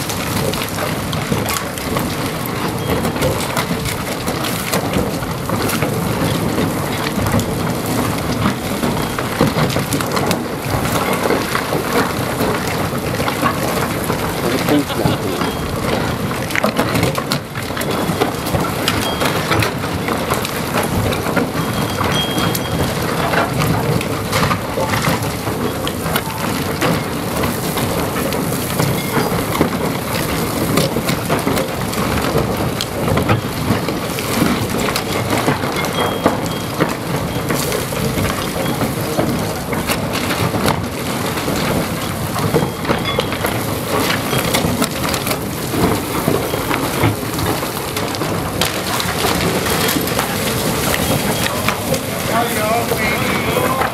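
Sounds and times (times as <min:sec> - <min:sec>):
tunnel boring machine rumble: 0:00.0 - 0:53.9.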